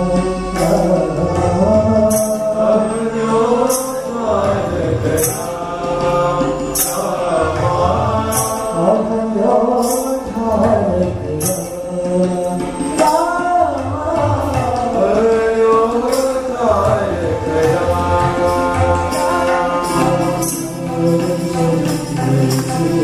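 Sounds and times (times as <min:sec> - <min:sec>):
bright percussive strikes: 0:00.0 - 0:23.0
voices singing devotional chant: 0:00.0 - 0:23.0.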